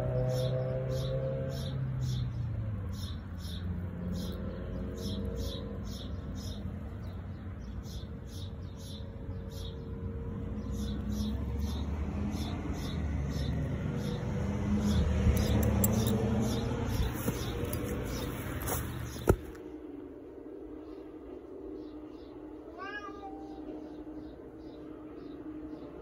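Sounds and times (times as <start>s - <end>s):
faint rising and falling hum: 2.6s - 26.0s.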